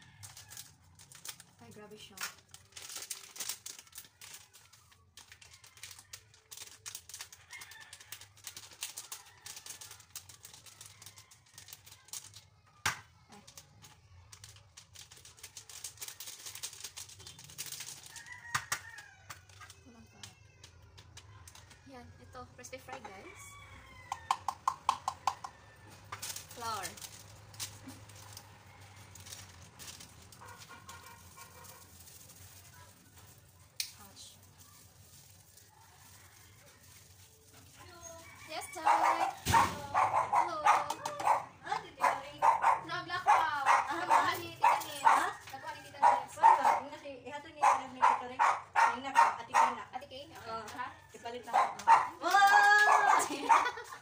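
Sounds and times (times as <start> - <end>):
plastic packet crinkling: 0.0 - 21.9, 23.5 - 46.8, 48.0 - 54.0.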